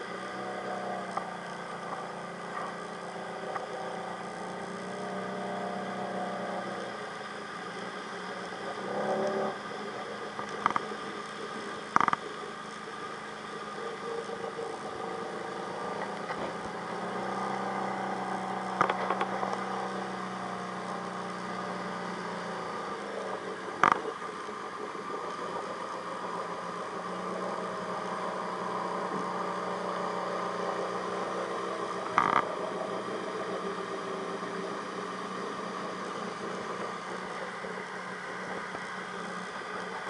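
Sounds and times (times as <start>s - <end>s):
atv engines running: 0.0s - 40.0s.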